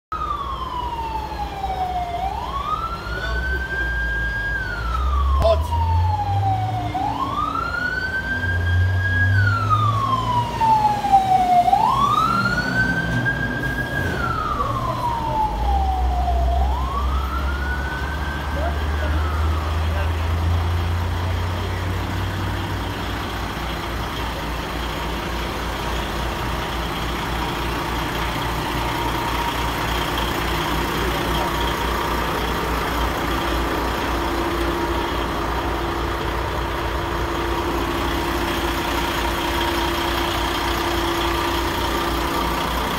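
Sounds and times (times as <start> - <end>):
truck engine idling: 0.1 - 42.9.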